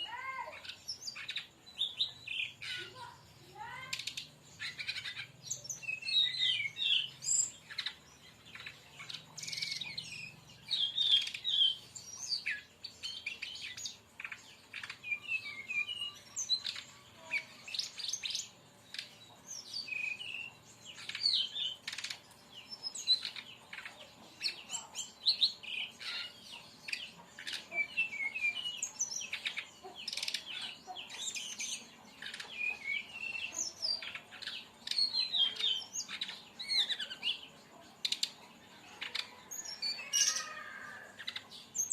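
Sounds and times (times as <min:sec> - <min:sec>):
bird chirping and twittering: 0:00.0 - 0:41.9.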